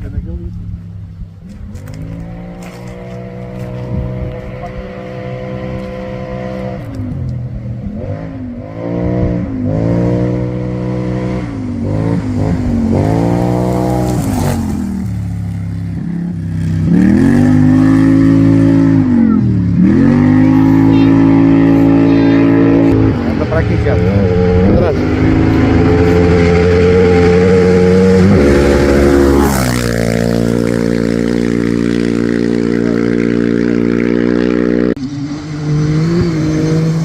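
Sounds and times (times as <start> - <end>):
vehicle engine revving: 0.0 - 37.0.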